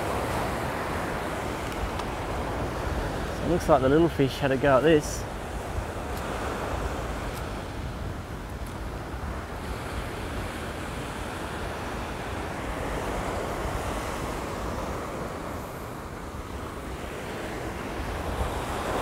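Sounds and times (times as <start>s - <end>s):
waves breaking on beach: 0.0s - 19.0s
wind buffeting microphone: 0.0s - 19.0s.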